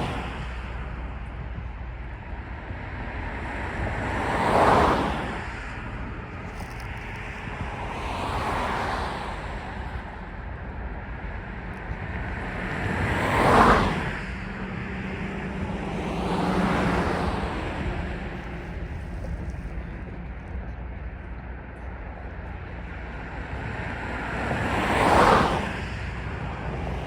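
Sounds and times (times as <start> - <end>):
vehicles passing by: 0.0 - 27.0.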